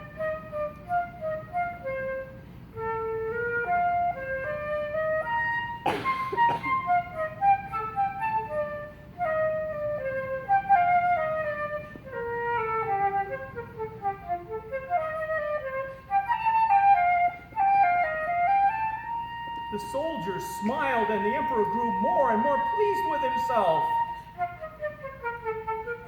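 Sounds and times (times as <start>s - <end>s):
flute melody: 0.0s - 26.0s.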